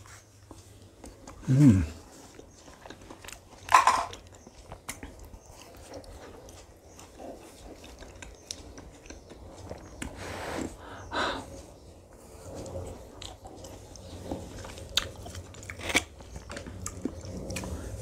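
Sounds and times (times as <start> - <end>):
biting and chewing: 0.0 - 18.0.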